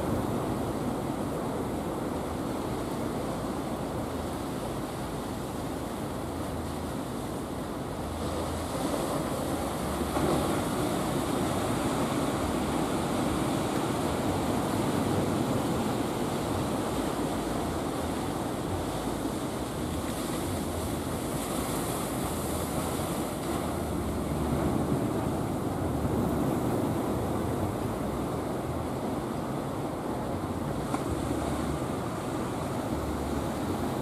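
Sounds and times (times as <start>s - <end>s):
sea waves washing: 0.0s - 34.0s
wind rumbling on microphone: 0.0s - 34.0s.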